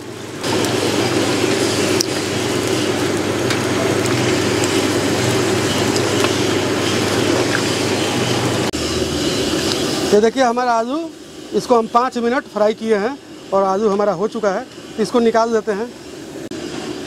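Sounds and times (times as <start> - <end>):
potatoes deep-frying in oil: 0.0 - 16.0.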